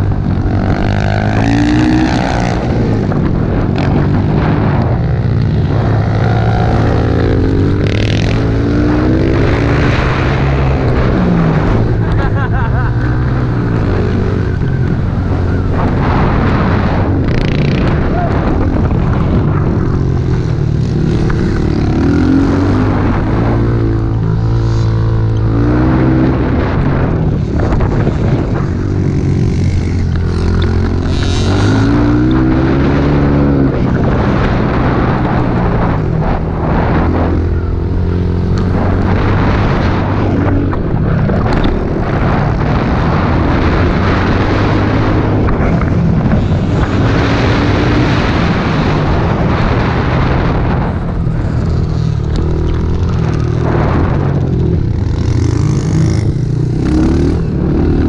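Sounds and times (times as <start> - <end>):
pit bike engines revving: 0.0 - 58.0.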